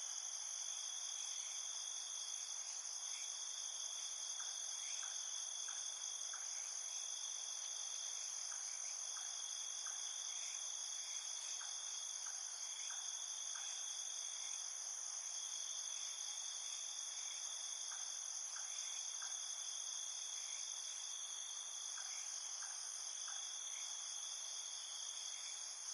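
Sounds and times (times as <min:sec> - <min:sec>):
crickets and insects chorus: 0:00.0 - 0:25.9.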